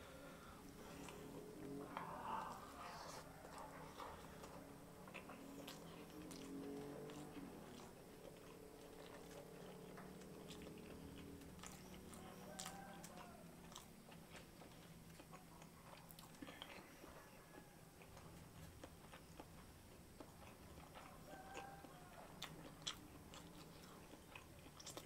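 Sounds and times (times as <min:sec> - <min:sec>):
close chewing: 0:00.0 - 0:25.0.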